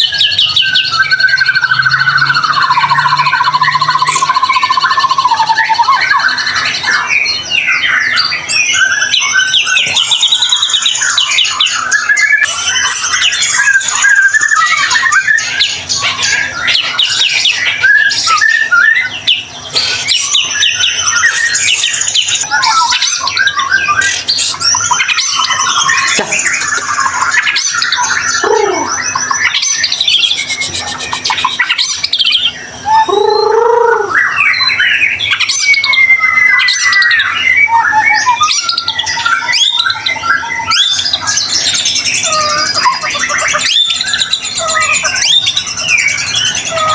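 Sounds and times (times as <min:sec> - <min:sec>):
bird singing whistled glides: 0:00.0 - 0:46.9.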